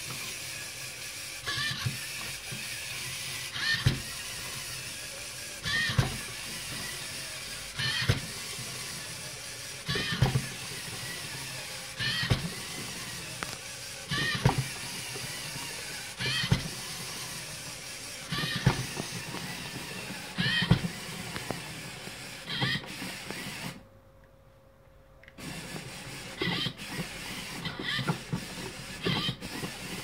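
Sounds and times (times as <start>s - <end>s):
servo motors whining: 0.0s - 23.8s, 25.4s - 30.0s.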